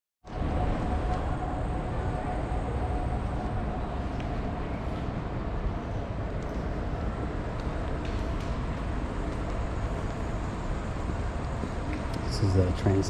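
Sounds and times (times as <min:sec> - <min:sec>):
low urban rumble: 0:00.2 - 0:13.0.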